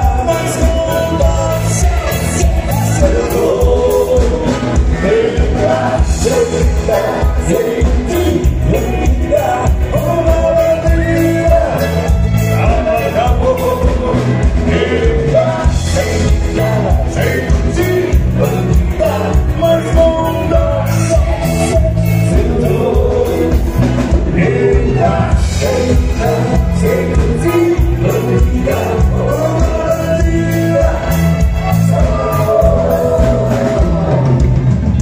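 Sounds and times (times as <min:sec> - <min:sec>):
live dance band playing: 0:00.0 - 0:35.0
person singing: 0:00.0 - 0:35.0.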